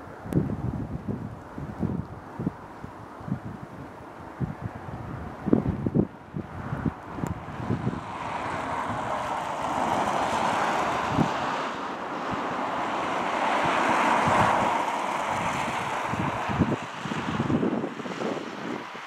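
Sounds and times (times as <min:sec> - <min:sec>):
car tyres on snowy road: 0:00.0 - 0:19.0
wind buffeting microphone: 0:00.0 - 0:19.0.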